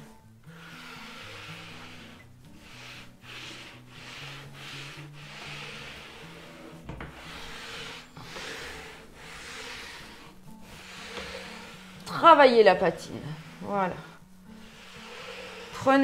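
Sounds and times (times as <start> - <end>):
sponge rubbing on wood: 0.0 - 16.0.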